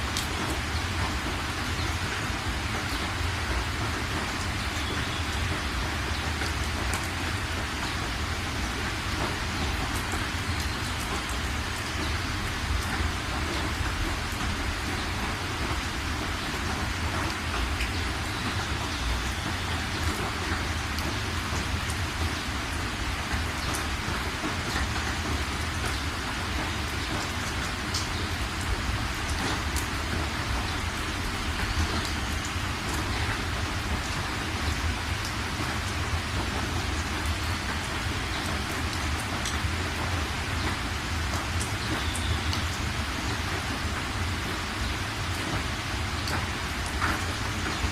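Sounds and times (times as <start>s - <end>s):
raindrops ticking on a surface: 0.0s - 47.9s
steady rain hiss: 0.0s - 47.9s.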